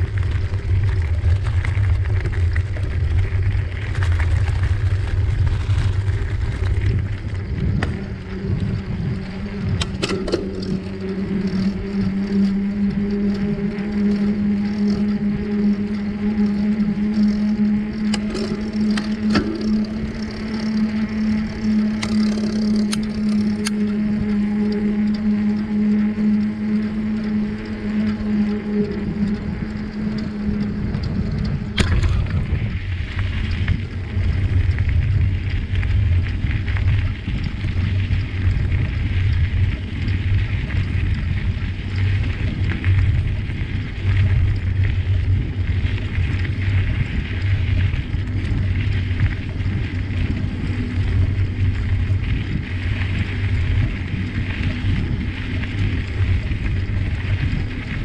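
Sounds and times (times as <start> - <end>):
wind buffeting microphone: 0.0 - 15.8, 27.4 - 58.0
bicycle rumbling on trail: 0.0 - 58.0
steady hum: 0.0 - 58.0.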